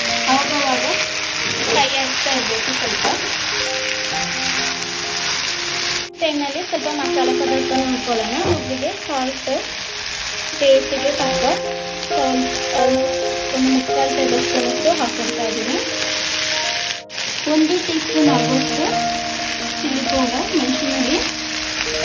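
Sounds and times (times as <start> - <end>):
vegetables sizzling in pan: 0.0 - 22.0
instrumental music with sliding notes: 3.2 - 22.0.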